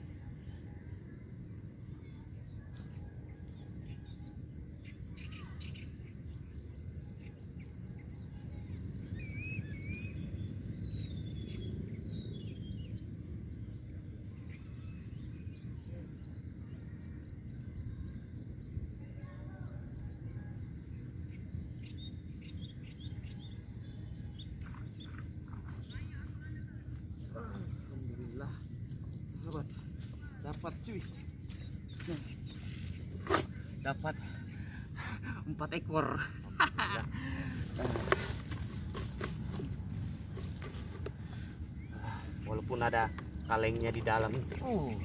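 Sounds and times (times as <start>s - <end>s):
birds chirping: 0.0s - 45.0s
low rumble of wind: 0.0s - 45.0s.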